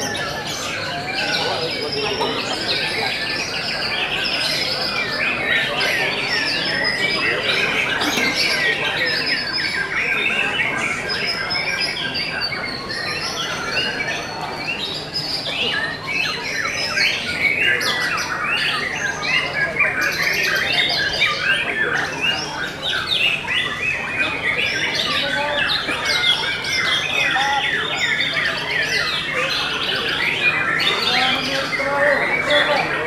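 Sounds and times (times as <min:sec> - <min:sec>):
many songbirds singing: 0:00.0 - 0:33.0.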